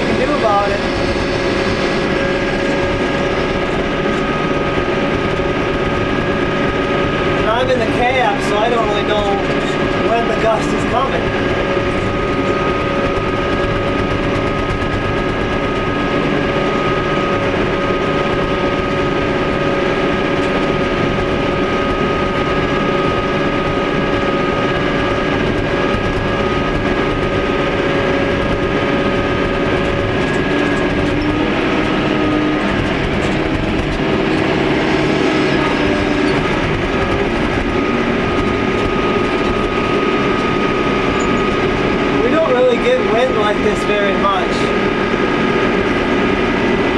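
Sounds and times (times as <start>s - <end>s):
farm machine engine running: 0.0s - 46.9s
steady whining tones: 0.0s - 46.9s.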